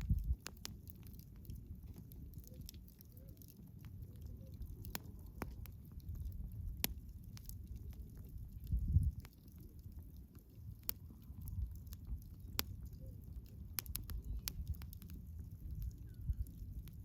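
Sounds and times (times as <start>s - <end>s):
campfire rumbling: 0.0s - 17.0s
fire crackling and popping: 0.0s - 17.0s.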